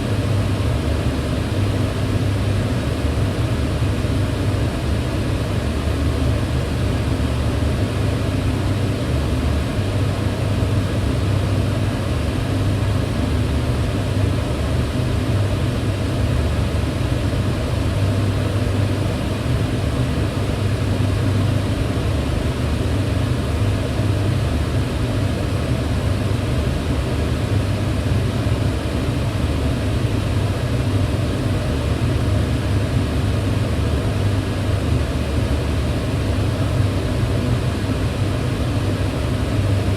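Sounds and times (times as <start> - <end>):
range hood fan rushing air: 0.0 - 39.9.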